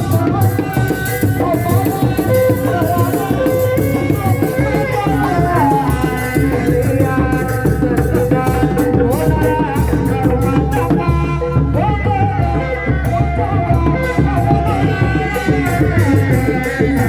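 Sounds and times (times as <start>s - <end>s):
low drum beat: 0.0s - 17.0s.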